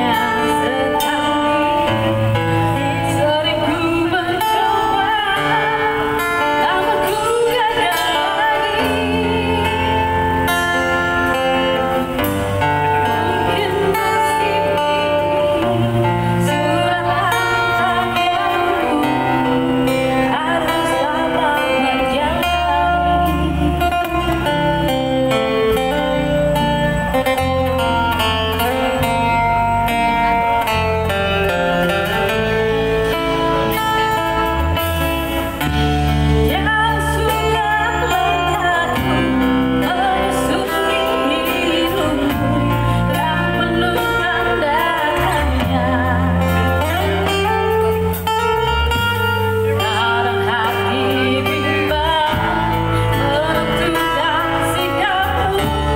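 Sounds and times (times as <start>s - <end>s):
live band playing: 0.0s - 55.9s
strummed acoustic guitar: 0.0s - 55.9s
woman singing through microphone: 0.0s - 55.9s.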